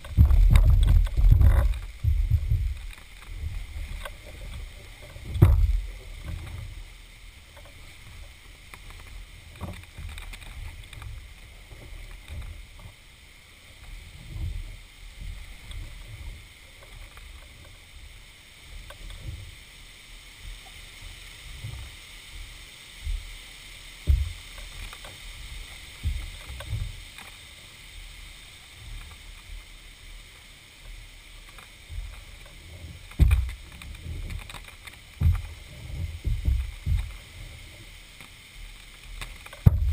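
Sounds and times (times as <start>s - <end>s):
paddle strokes swishing in water: 0.0s - 39.9s.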